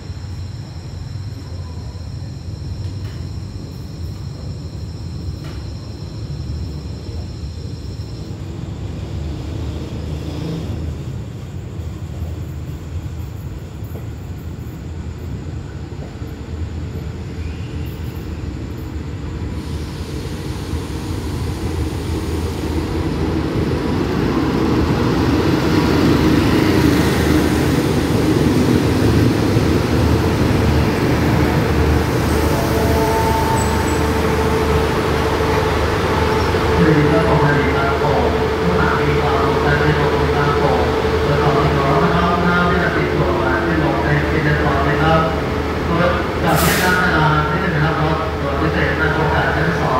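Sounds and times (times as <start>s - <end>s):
train rumbling: 0.0s - 49.9s.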